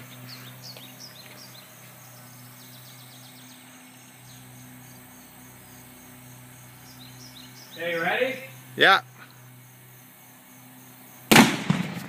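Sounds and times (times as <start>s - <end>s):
small birds chirping: 0.0s - 11.3s
steady low hum: 0.0s - 12.0s.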